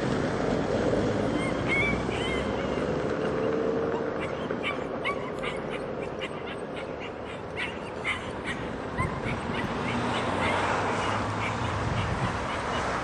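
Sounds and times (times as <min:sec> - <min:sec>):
puppy whimpering and yipping: 0:01.2 - 0:13.0.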